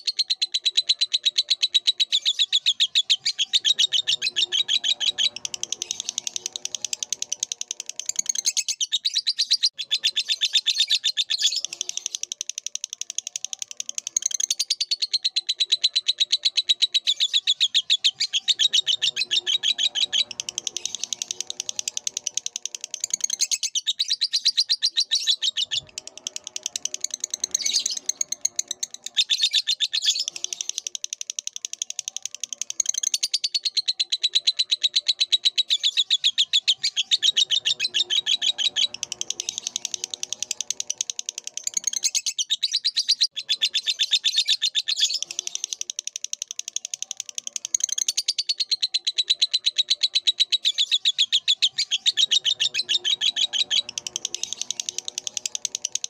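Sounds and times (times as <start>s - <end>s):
lovebird chattering twitter: 0.0s - 56.0s.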